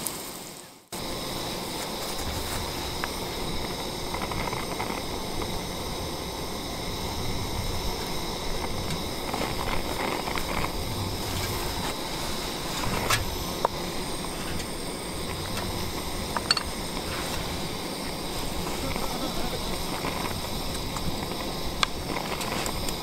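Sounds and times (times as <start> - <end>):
vegetables sizzling in frying pan: 0.0 - 23.0.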